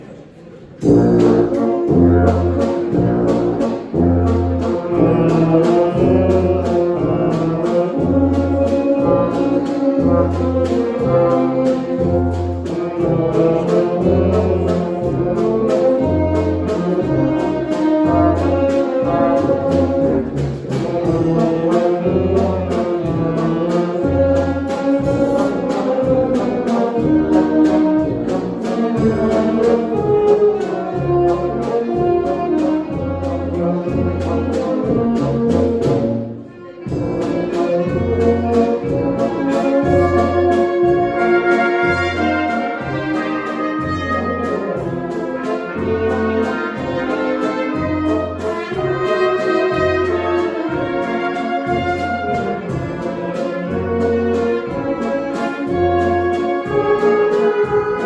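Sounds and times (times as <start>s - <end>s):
brass band playing a waltz: 0.0s - 58.0s.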